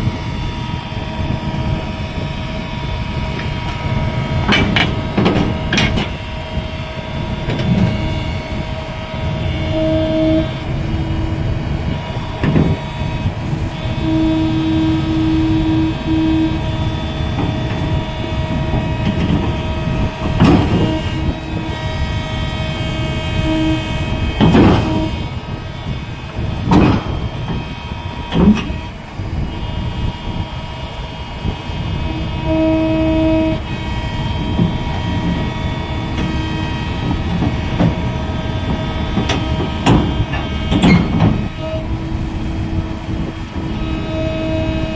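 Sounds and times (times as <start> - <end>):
excavator engine and hydraulics whining: 0.0 - 44.9
heavy metallic clanks: 2.8 - 29.2, 33.5 - 44.9.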